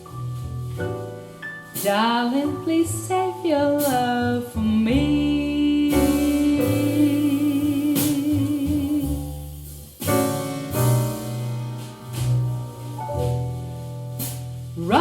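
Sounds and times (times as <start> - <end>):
bass line: 0.0 - 15.0.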